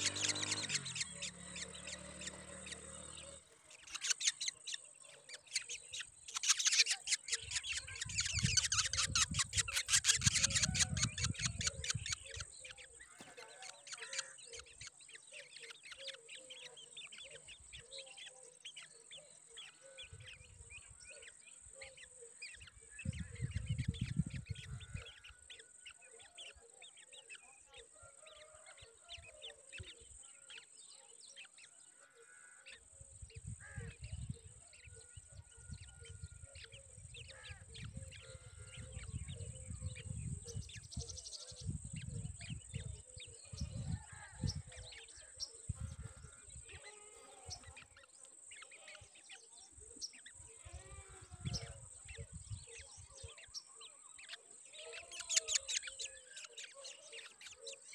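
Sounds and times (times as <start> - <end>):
nestlings begging chirps: 0.0 - 57.9.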